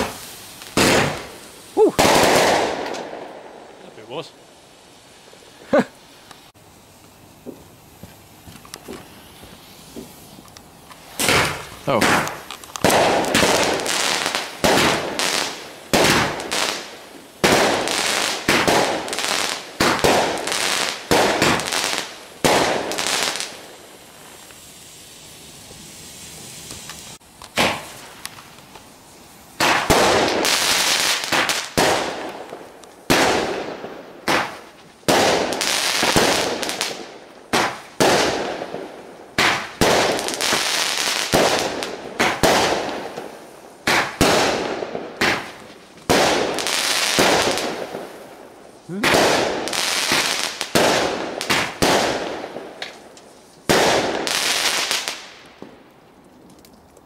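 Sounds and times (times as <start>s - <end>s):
faint hiss: 0.0s - 57.0s
fireworks bangs and crackles: 0.0s - 57.0s.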